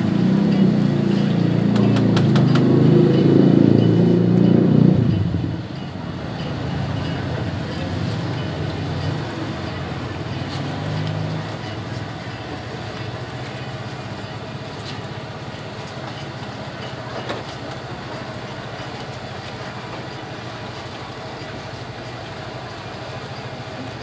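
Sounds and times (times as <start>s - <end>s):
idling engine hum: 0.0s - 24.0s
street background noise: 0.0s - 24.0s.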